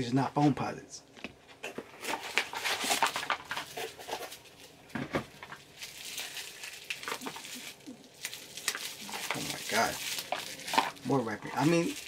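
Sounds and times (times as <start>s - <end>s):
packing wrap crinkling: 1.6s - 12.0s.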